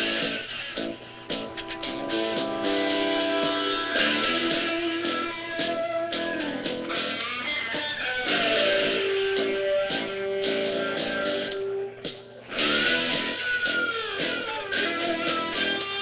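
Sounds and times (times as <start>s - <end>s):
plucked and strummed guitar: 0.0s - 16.0s.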